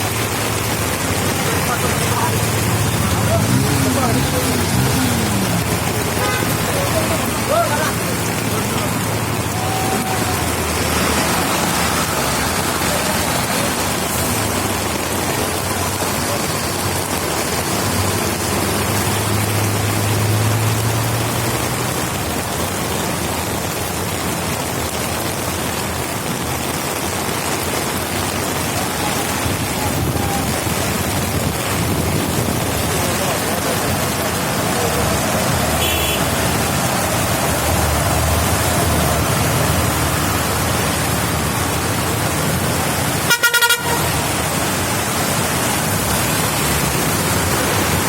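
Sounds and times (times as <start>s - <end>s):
heavy rain: 0.0s - 48.0s.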